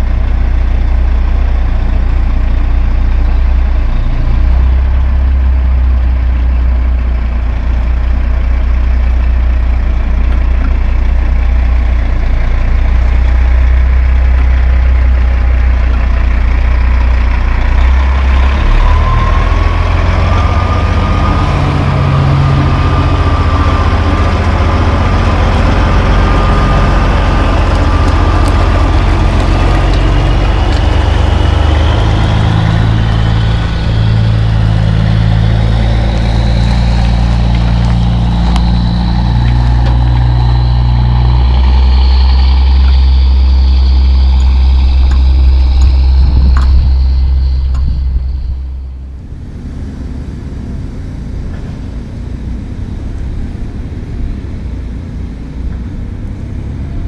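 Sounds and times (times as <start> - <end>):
truck diesel engine driving past: 0.0 - 57.0
rising whine: 7.8 - 57.0.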